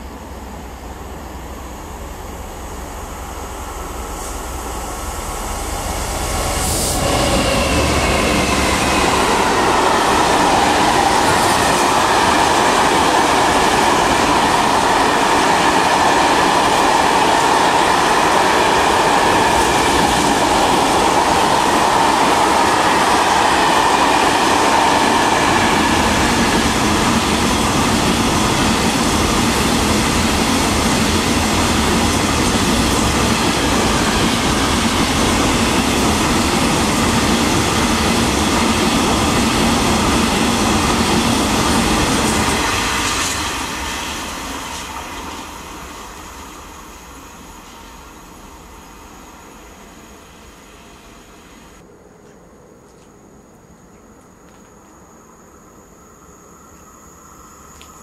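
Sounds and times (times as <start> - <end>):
train wheels on rails: 0.0 - 53.2.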